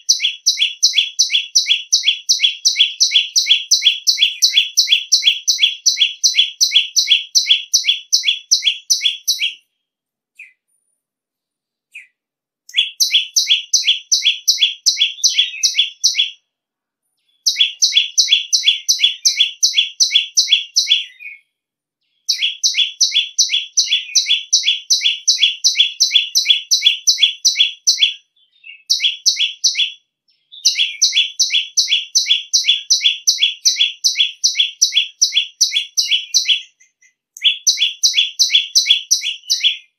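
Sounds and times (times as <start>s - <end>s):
bird calling shrill notes: 0.0s - 9.6s, 12.7s - 16.4s, 17.4s - 21.4s, 22.2s - 39.9s.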